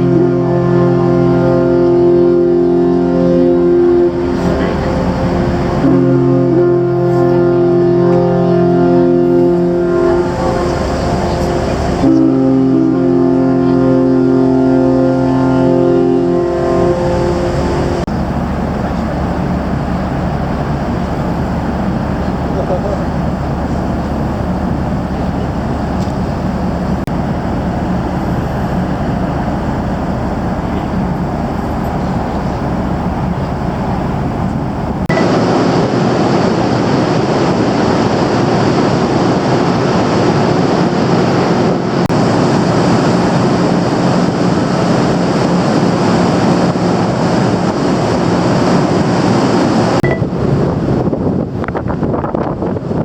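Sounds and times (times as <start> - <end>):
ship machinery rumble and hum: 0.0 - 53.0.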